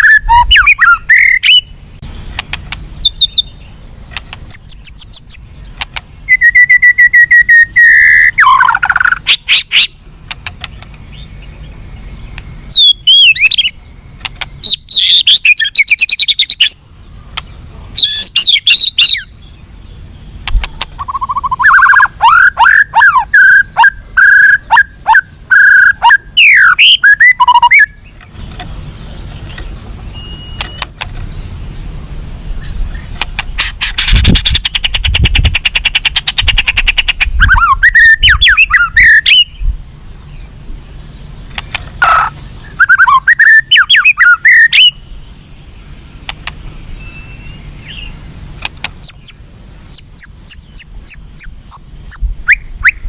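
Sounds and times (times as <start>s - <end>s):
bird singing whistles and ticks: 0.0s - 19.5s, 20.4s - 28.7s, 29.4s - 31.5s, 32.6s - 39.8s, 42.6s - 45.2s, 46.2s - 48.2s, 48.8s - 53.0s.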